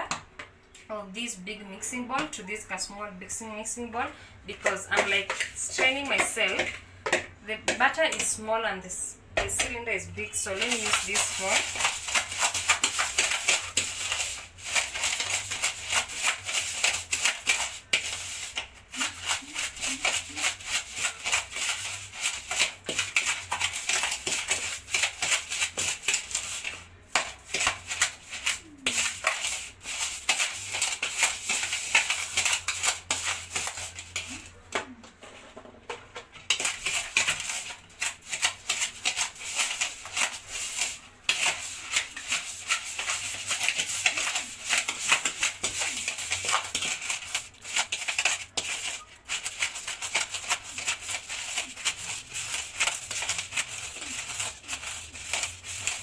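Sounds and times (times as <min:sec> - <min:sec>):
spoon beating plastic bowl: 0:04.5 - 0:08.4, 0:09.3 - 0:35.0, 0:35.8 - 0:56.0.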